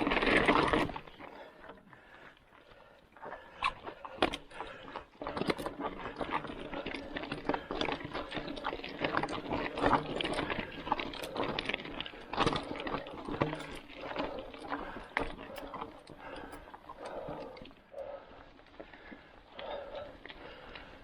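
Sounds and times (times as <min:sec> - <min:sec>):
mountain bike rattling on dirt: 0:00.0 - 0:21.0.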